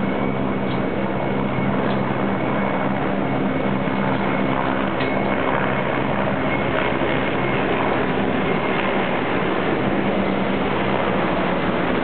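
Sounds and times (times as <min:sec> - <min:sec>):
helicopters flying past: 0:00.0 - 0:12.0.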